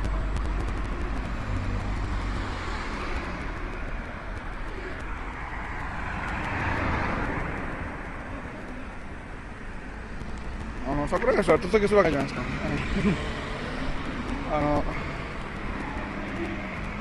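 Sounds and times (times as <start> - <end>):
cars driving past: 0.3 - 17.0.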